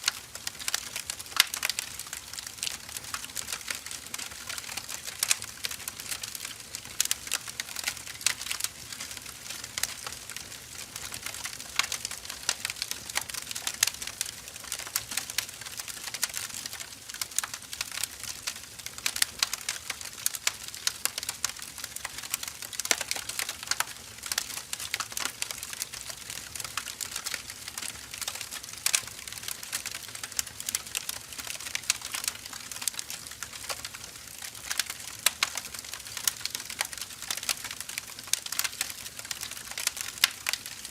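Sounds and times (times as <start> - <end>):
firewood crackling: 0.0 - 40.9.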